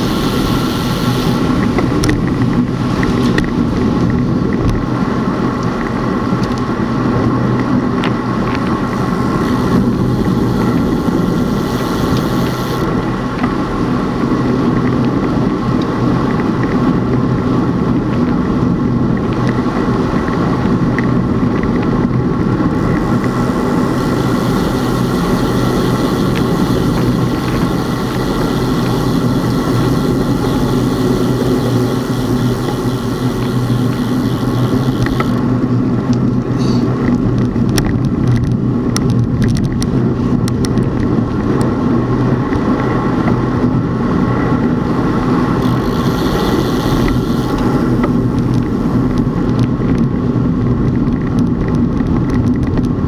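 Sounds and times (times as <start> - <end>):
road and wind noise: 0.0 - 53.0
vehicle engine hum: 0.0 - 53.0.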